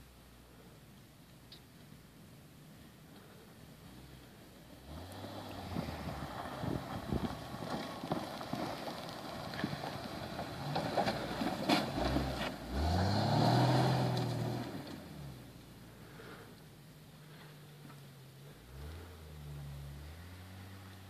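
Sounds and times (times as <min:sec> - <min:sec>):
car engine running and revving: 0:03.9 - 0:21.0.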